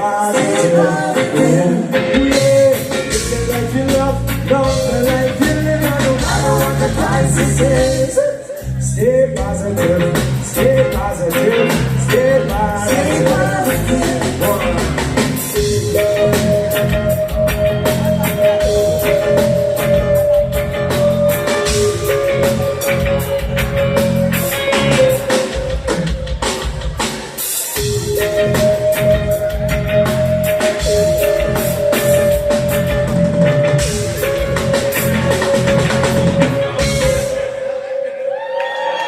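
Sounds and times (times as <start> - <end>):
reggae band playing: 0.0 - 39.0.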